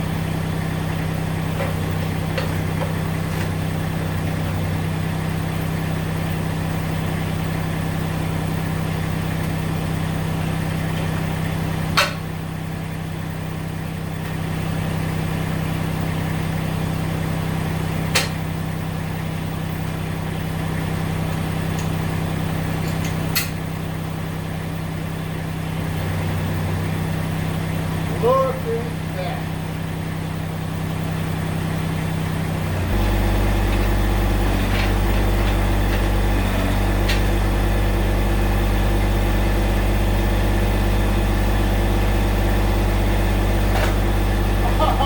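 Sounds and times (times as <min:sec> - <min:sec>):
diesel tractor engine idling: 0:00.0 - 0:45.0.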